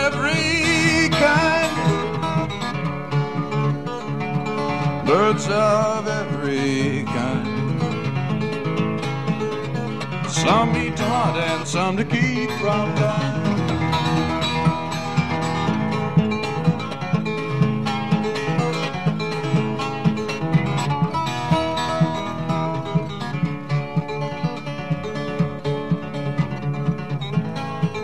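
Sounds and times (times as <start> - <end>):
solo acoustic guitar: 0.0 - 28.0.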